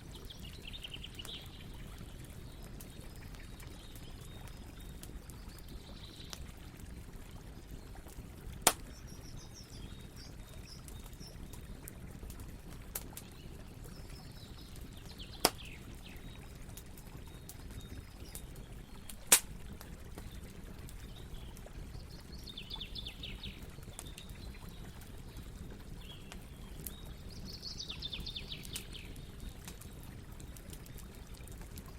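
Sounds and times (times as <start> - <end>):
campfire crackling: 0.0 - 31.9
fire popping: 0.1 - 31.9.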